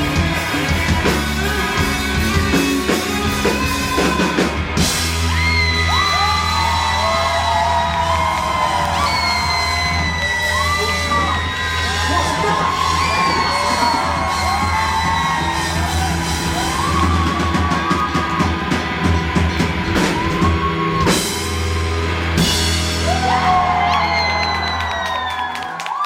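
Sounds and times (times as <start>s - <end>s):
live rock band playing: 0.0s - 25.3s
audience whooping and yelling: 3.2s - 26.0s.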